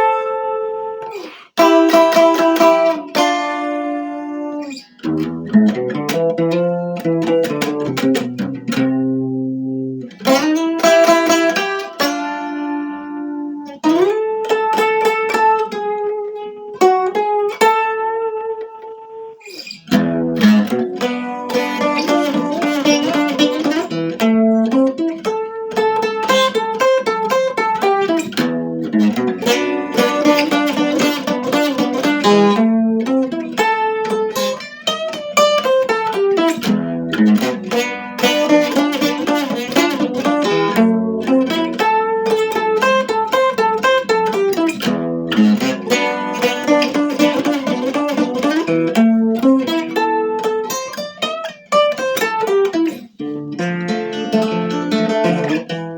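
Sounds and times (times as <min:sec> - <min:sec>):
plucked guitar melody: 0:00.0 - 0:55.9.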